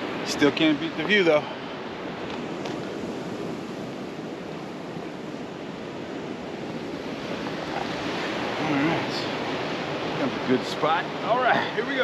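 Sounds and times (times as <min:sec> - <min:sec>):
ocean surf over rocks: 0:00.0 - 0:12.0.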